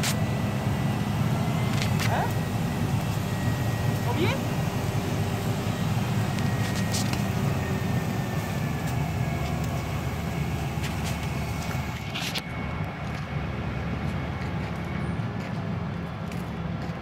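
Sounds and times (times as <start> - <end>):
heavy equipment engine droning: 0.0 - 17.0.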